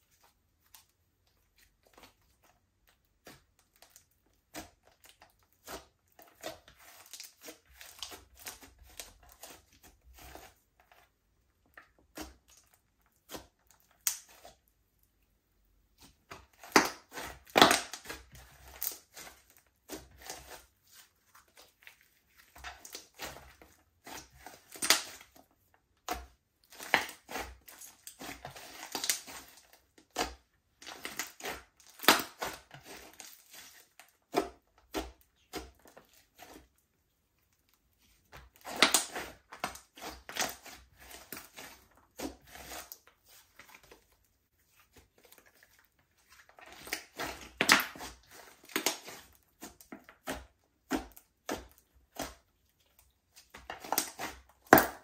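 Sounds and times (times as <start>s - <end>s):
slime squelching: 0.0s - 55.0s.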